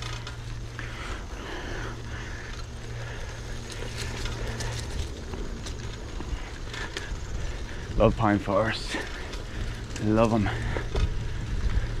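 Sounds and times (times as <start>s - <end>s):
bicycle rolling on trail: 0.0s - 12.0s
bike clicks and rattles: 0.0s - 12.0s.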